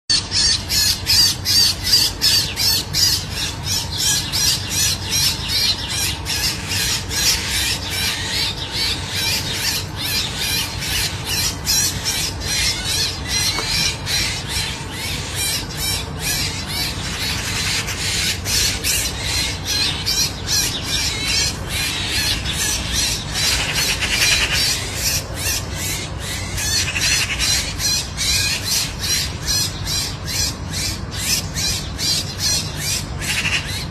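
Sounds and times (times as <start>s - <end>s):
bird squawking harshly: 0.1s - 30.6s, 31.2s - 33.9s.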